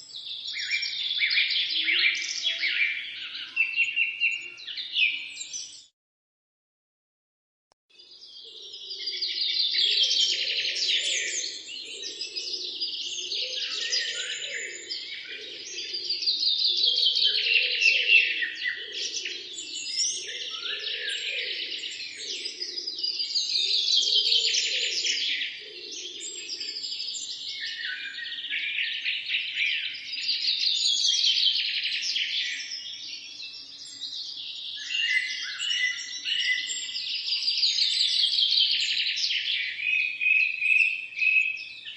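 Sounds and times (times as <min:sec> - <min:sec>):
loud trilled bird song: 0:00.0 - 0:05.9, 0:08.0 - 0:41.9
songbirds singing: 0:00.0 - 0:05.9, 0:07.9 - 0:41.9.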